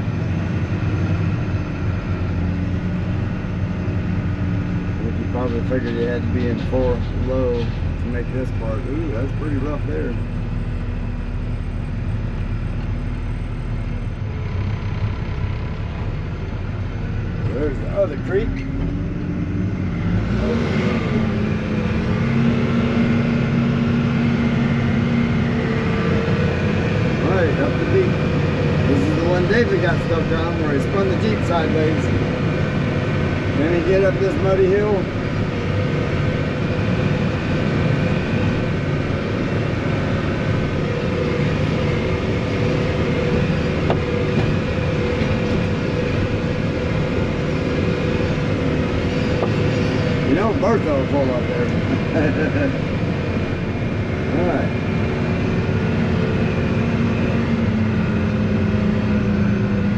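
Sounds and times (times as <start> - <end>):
steady engine whine: 0.0 - 59.9
vehicle engine under load: 0.0 - 59.9.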